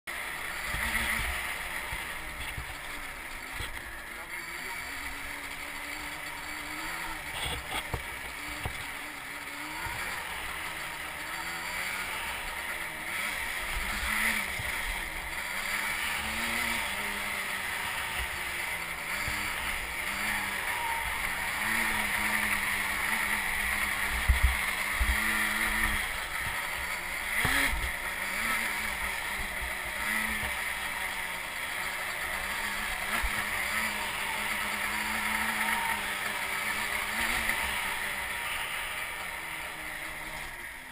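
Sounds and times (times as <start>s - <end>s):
atv engine running: 0.1s - 40.9s.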